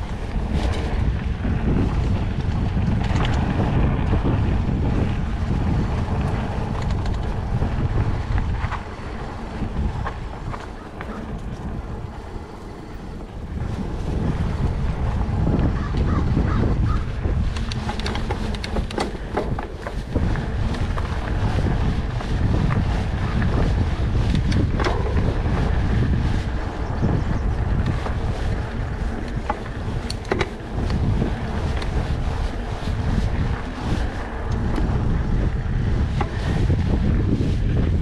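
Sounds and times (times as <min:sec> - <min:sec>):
bike rattling over bumps: 0:00.0 - 0:38.0
bike tyres rolling on dirt: 0:00.0 - 0:38.0
wind buffeting microphone: 0:00.0 - 0:38.0.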